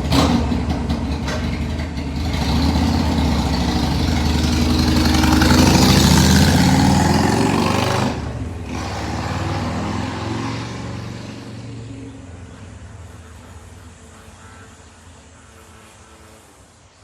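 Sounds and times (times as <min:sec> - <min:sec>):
motorcycle riding away: 0:00.0 - 0:14.6.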